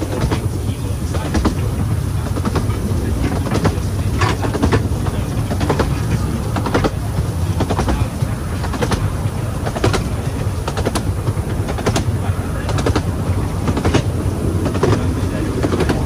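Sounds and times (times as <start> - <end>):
railway carriage rumbling: 0.0 - 16.0
wheels clicking and knocking: 0.0 - 16.0.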